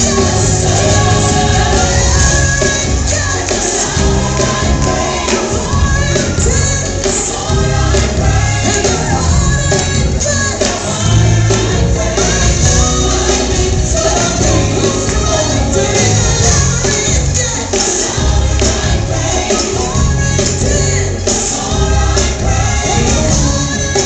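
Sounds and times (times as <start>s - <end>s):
band with heavy bass: 0.0s - 24.0s
gospel choir singing: 0.0s - 24.0s.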